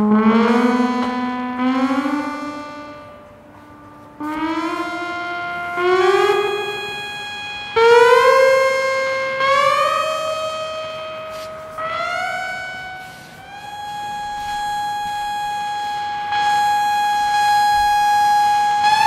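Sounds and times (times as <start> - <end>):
synthesizer tones: 0.0 - 19.0.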